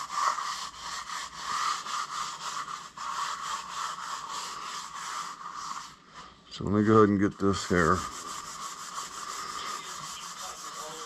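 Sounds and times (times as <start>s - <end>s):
abrasive pad scrubbing metal: 0.0s - 11.0s.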